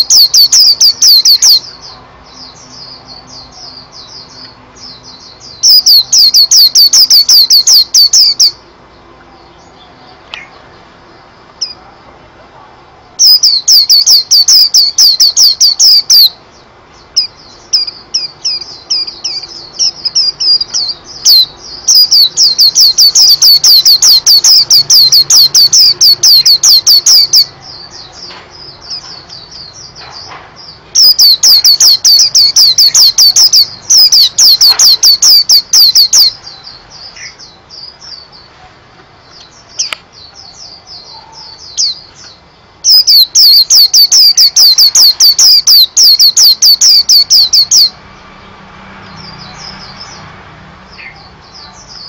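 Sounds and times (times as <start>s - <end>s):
soft bird twittering: 0.0s - 52.0s.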